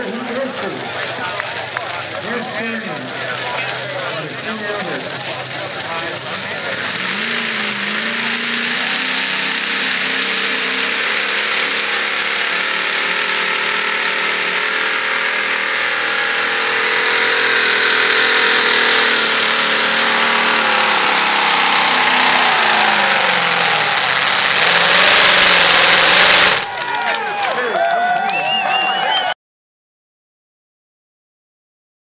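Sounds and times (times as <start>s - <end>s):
tractor engine at high revs: 0.0s - 27.6s.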